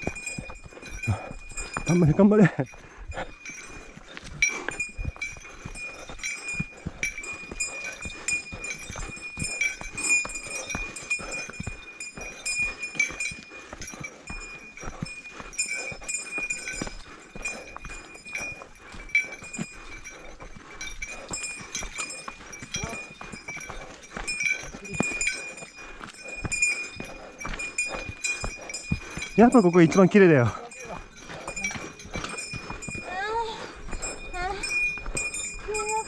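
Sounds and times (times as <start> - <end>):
footsteps on dirt trail: 0.0 - 36.0.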